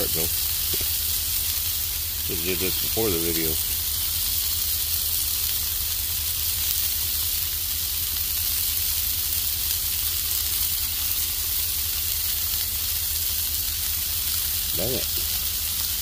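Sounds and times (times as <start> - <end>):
burgers sizzling on a griddle: 0.0 - 16.0.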